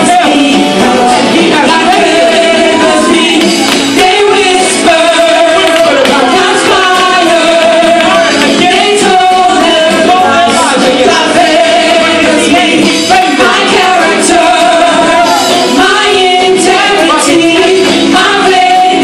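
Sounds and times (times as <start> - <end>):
gospel group singing amplified: 0.0 - 19.0.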